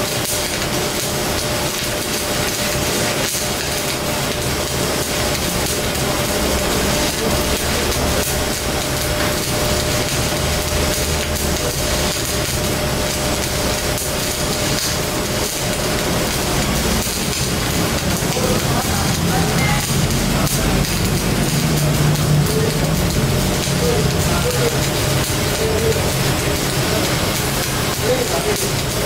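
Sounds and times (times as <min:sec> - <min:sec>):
arc welding crackling: 0:00.0 - 0:29.0.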